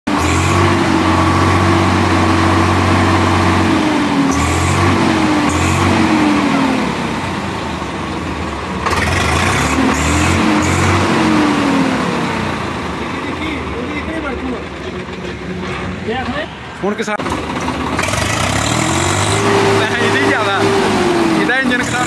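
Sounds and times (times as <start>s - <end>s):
tractor diesel engine revving: 0.0s - 22.0s.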